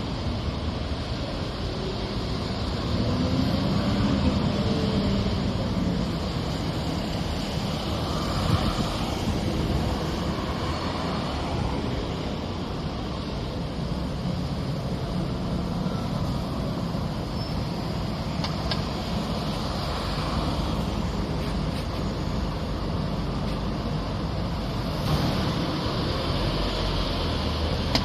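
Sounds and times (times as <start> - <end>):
vehicle rumble: 0.0 - 28.0.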